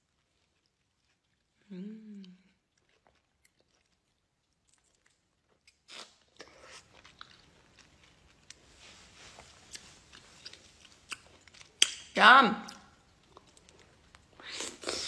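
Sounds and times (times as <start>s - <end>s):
soft wet chewing: 0.0s - 12.1s, 12.7s - 15.0s.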